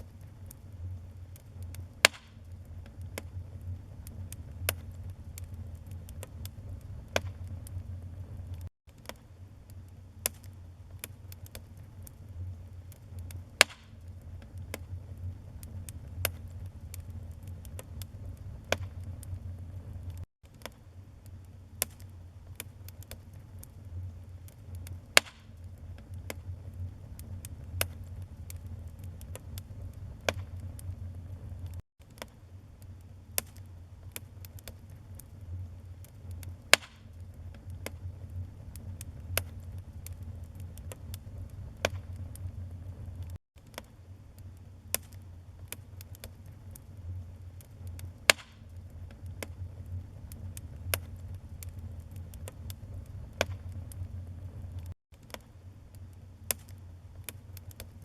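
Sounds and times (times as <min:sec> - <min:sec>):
low rumble of flames: 0:00.0 - 0:58.0
pops and snaps of fire: 0:00.0 - 0:58.0
wood fire crackling: 0:00.0 - 0:58.0.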